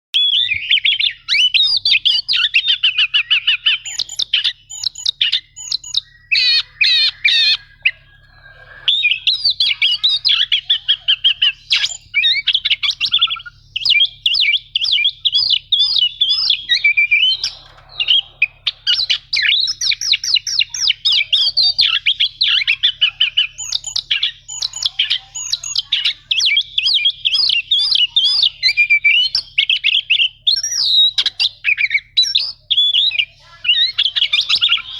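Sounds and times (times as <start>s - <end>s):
bird singing rapid chattering song: 0.2s - 34.9s.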